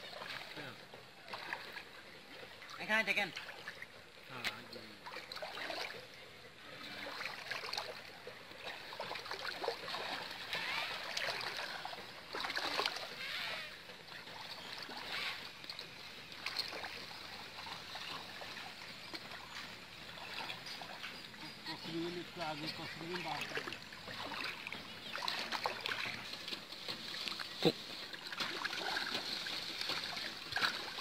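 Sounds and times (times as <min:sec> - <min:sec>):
net hauled through splashing water: 0:00.0 - 0:06.1, 0:06.8 - 0:31.0
person wading in water: 0:00.0 - 0:31.0.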